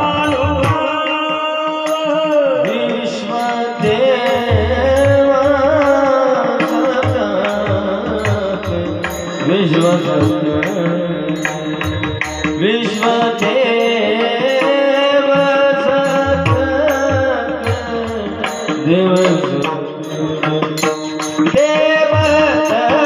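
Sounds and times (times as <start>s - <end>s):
drum strokes: 0.0s - 23.0s
voices singing devotional melody: 0.0s - 23.0s
small hand cymbals: 1.8s - 23.0s.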